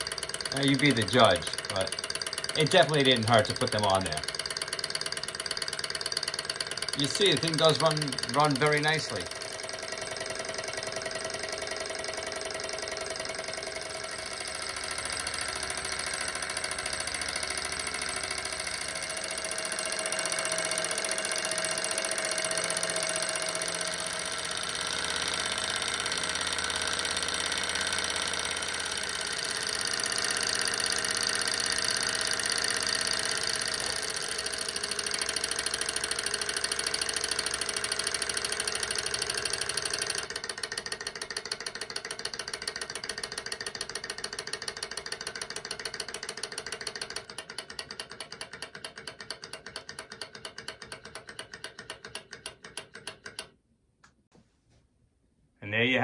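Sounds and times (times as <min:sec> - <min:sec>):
small engine mechanical clatter: 0:00.0 - 0:53.6.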